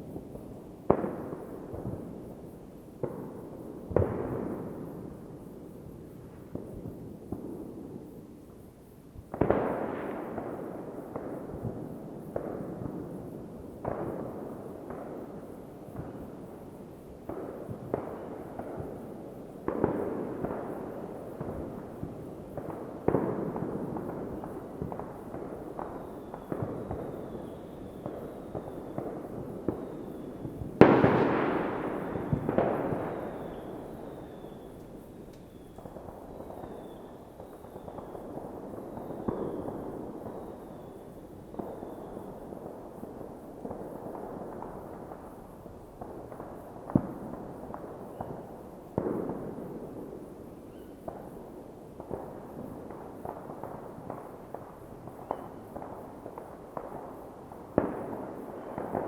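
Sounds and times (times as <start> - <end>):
fireworks bangs with echo: 0.0 - 8.7, 9.3 - 59.0
fireworks crackling and rumbling: 0.0 - 59.0.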